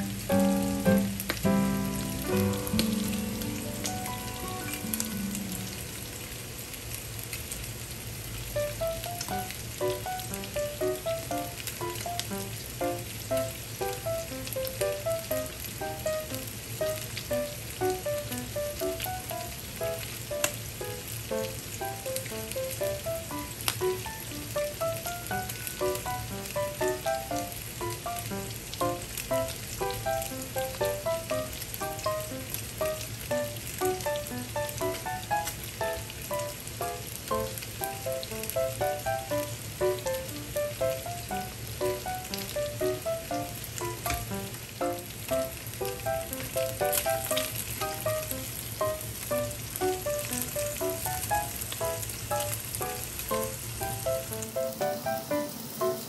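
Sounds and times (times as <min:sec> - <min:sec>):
gentle background music: 0:00.0 - 0:06.4, 0:08.6 - 0:56.0
fish sizzling in a pan: 0:00.0 - 0:56.0.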